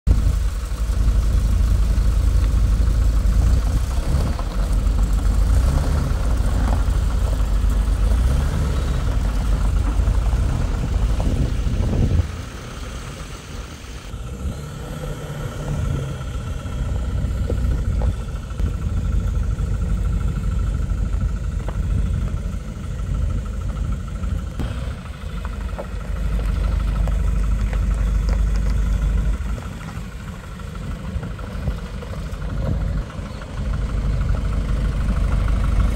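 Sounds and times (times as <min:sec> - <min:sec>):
truck engine rumbling: 0:00.0 - 0:35.9.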